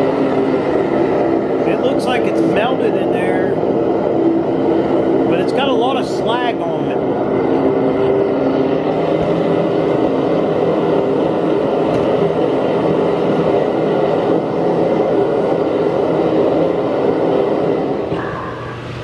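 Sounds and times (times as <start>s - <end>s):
constant hum: 0.0s - 19.0s
furnace flame roaring: 0.0s - 19.0s.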